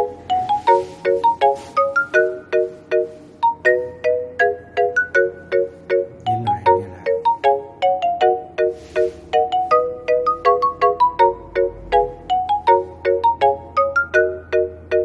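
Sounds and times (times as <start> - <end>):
bright melody of struck notes: 0.0 - 15.0.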